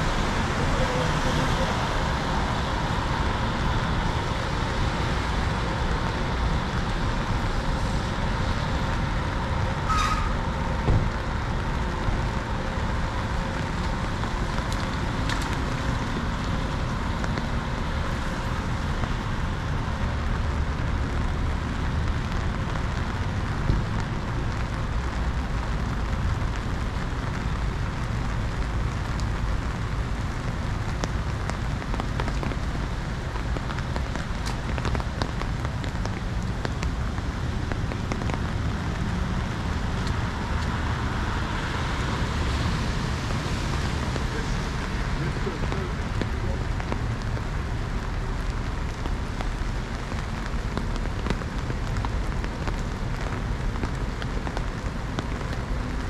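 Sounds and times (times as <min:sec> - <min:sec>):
rain falling on street: 0:00.0 - 0:56.0
road traffic passing: 0:00.0 - 0:56.0.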